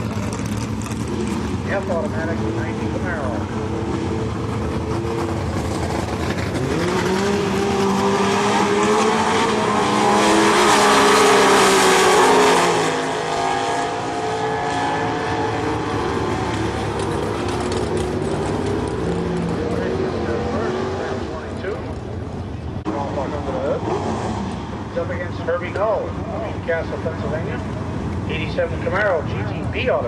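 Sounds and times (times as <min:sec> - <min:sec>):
drag car engines accelerating: 0:00.0 - 0:30.0.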